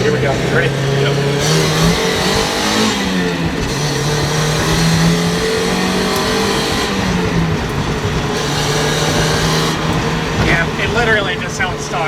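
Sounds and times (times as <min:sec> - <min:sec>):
car engine accelerating: 0:00.0 - 0:12.0
road noise: 0:00.0 - 0:12.0.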